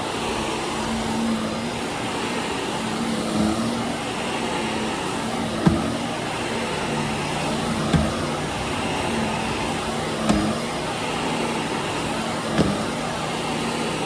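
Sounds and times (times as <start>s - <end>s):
vacuum cleaner humming: 0.0s - 14.0s.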